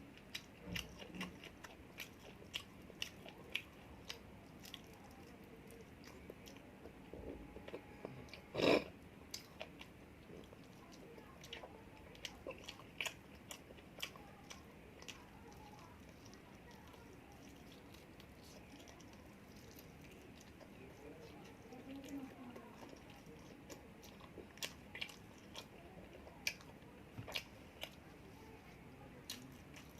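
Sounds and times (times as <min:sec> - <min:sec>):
person chewing food: 0:00.0 - 0:28.2, 0:29.2 - 0:29.9.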